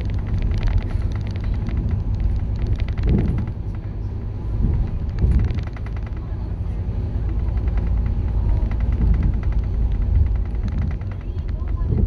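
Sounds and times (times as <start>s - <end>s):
bus engine drone: 0.0s - 12.0s
rattles and clicks: 0.0s - 12.0s.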